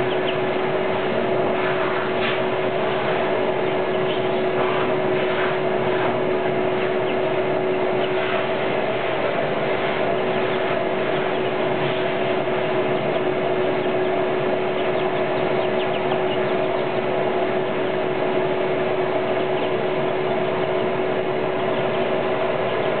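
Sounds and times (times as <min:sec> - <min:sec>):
chicks peeping: 0:00.0 - 0:23.0
vacuum cleaner running: 0:00.0 - 0:23.0.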